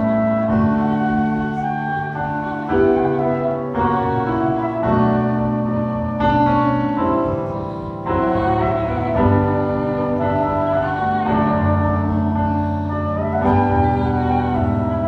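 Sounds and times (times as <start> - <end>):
piano and organ chords: 0.0 - 15.0.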